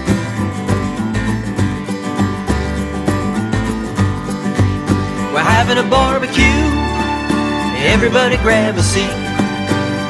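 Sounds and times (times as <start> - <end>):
instrumental country band music: 0.0 - 10.0.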